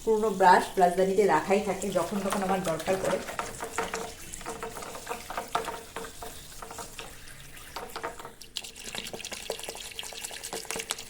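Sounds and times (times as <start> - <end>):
tap water running: 0.0 - 11.0
toothbrush scrubbing: 0.0 - 11.0.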